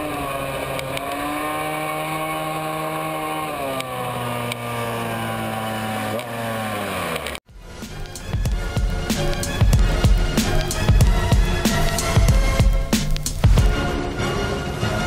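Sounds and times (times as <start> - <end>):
racing scooter engine: 0.0 - 13.7.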